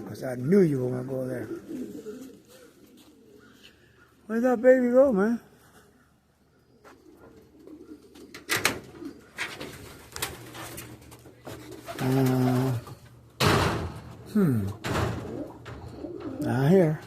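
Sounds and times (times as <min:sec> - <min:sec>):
pigeons cooing: 0:00.0 - 0:04.3, 0:05.5 - 0:17.0
rustles: 0:00.2 - 0:04.3, 0:06.8 - 0:17.0.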